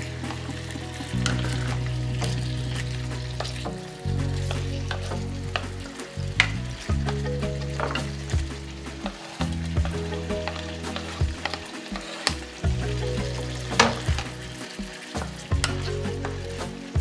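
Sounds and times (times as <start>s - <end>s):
chicken sizzling in a frying pan: 0.0s - 17.0s
spatula knocking and scraping pan: 0.2s - 16.5s.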